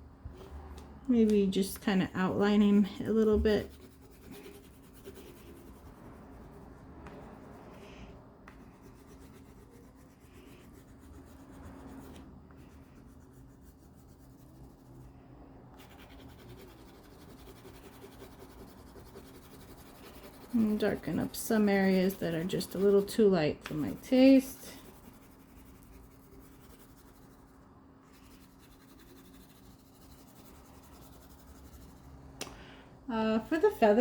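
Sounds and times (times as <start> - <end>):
crayon scratching on paper: 2.8 - 14.9, 15.8 - 32.0.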